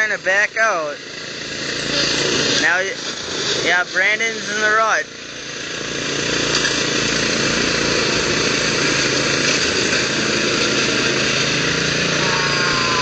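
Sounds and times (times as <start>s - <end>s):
lawn mower engines running hard: 0.0s - 13.0s.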